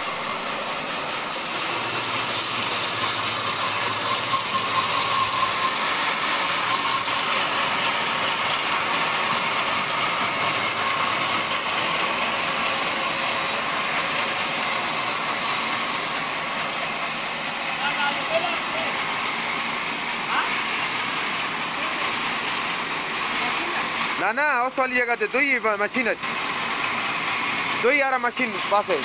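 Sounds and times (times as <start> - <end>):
band saw cutting wood: 0.0 - 29.0.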